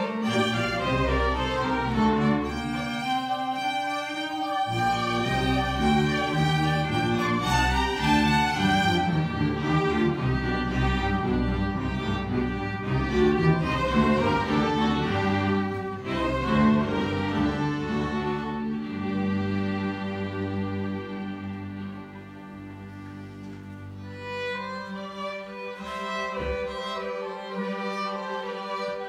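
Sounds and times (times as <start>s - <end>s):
string orchestra playing: 0.0s - 29.0s.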